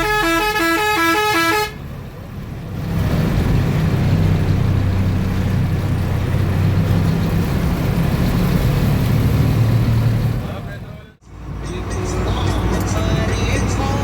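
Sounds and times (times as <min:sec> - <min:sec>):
bus diesel engine humming: 0:00.0 - 0:14.0
road noise: 0:00.0 - 0:14.0.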